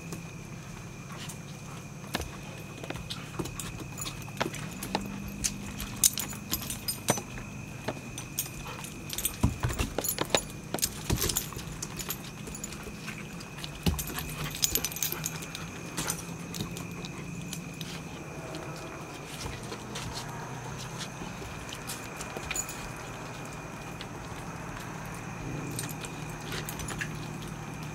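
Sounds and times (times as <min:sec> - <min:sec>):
collar tags jingling: 0:00.3 - 0:27.9.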